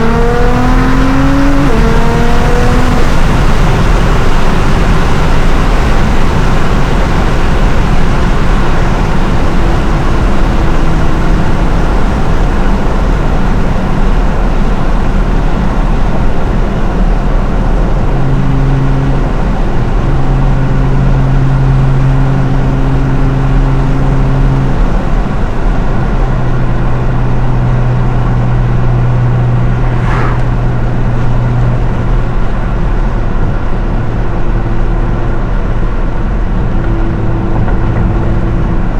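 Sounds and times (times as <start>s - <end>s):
car engine and exhaust: 0.0s - 38.9s
road noise: 0.0s - 38.9s.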